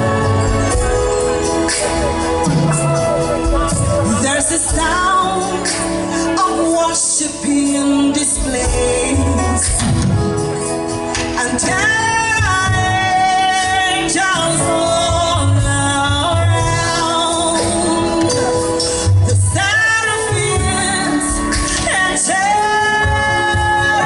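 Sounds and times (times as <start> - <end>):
instrumental backing with bass beat: 0.0 - 24.0
person singing with vibrato: 0.0 - 24.0.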